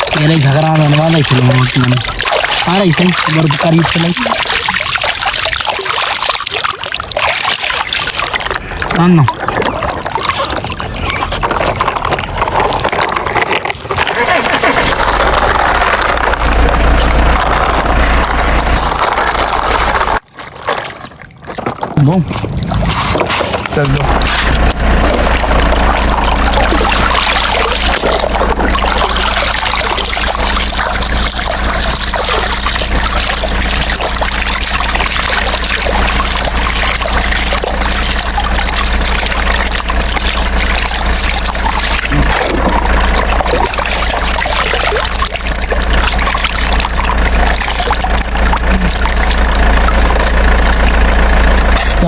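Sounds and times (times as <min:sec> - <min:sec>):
continuous low hum: 0:00.0 - 0:52.0
water spraying and splashing: 0:00.0 - 0:52.0.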